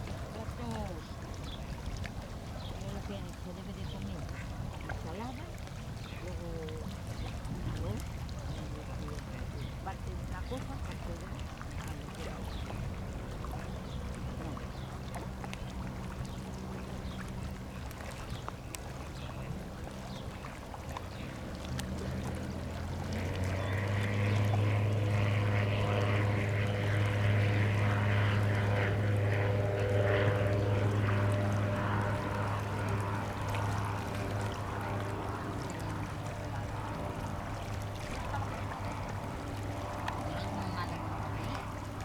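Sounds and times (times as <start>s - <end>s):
light aircraft engine droning: 0.0s - 42.0s.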